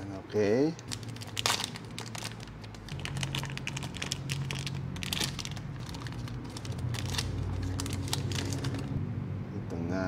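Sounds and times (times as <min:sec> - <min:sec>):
low hum: 0:00.8 - 0:09.9
plastic bag crinkling: 0:00.9 - 0:09.0.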